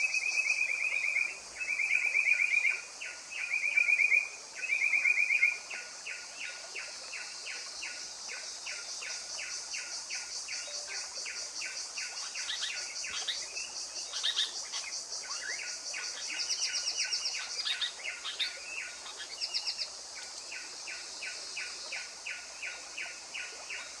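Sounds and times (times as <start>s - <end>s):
bird calls and high trills: 0.0s - 24.0s.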